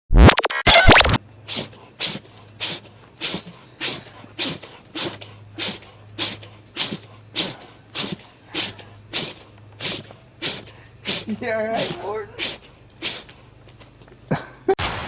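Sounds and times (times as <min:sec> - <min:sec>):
bear sneezing: 0:01.4 - 0:13.5.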